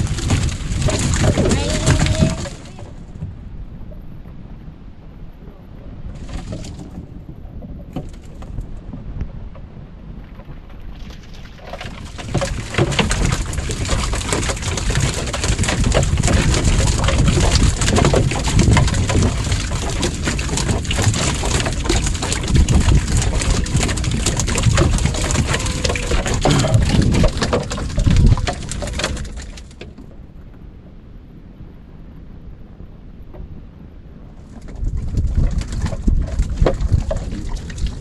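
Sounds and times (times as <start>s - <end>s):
water rushing and crackling: 0.0s - 31.8s, 32.9s - 38.0s.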